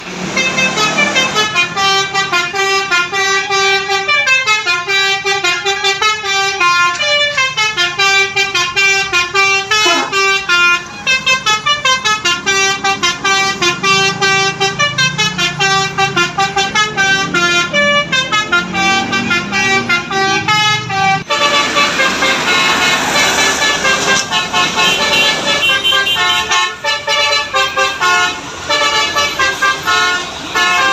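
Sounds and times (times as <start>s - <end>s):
musical air horn playing a tune: 0.2s - 30.9s.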